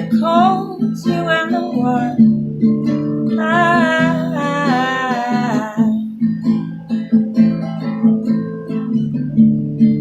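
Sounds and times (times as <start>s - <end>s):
fingerpicked acoustic guitar: 0.0s - 10.0s.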